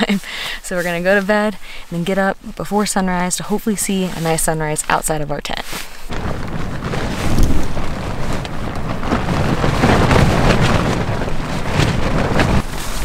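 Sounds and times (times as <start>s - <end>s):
gusty wind buffeting a tent: 0.0s - 13.0s.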